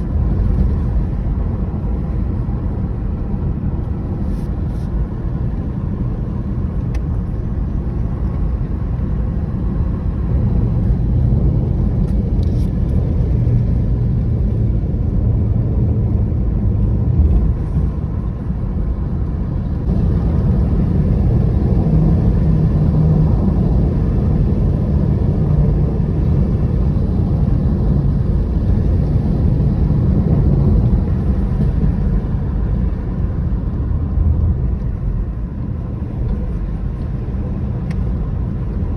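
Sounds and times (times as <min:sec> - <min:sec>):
vehicle rumble: 0:00.0 - 0:38.9.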